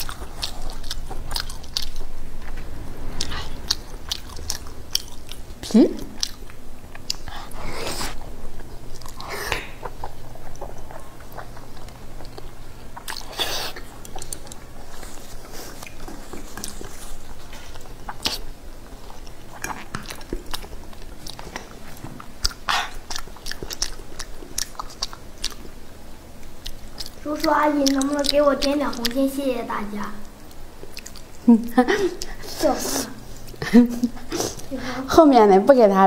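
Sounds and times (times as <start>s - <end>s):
chewing with mouth clicks: 0.0s - 2.6s, 3.2s - 25.8s, 26.4s - 29.3s, 30.2s - 31.5s.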